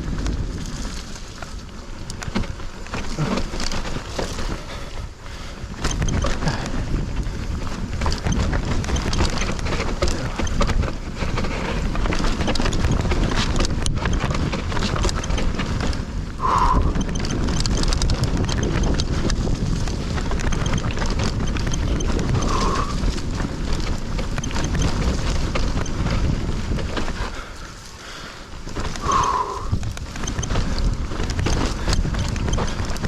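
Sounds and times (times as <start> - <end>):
bike rattling over bumps: 0.0 - 33.0
wind buffeting microphone: 0.0 - 33.0.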